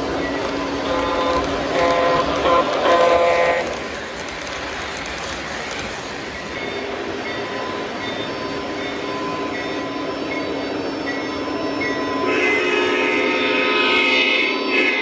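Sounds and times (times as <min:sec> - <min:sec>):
model train rattling on metal track: 0:00.0 - 0:15.0.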